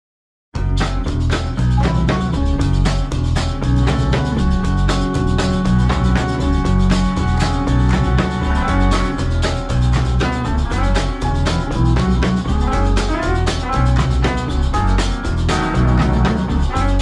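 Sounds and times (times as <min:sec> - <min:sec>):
instrumental music with drum beat: 0:00.6 - 0:17.0.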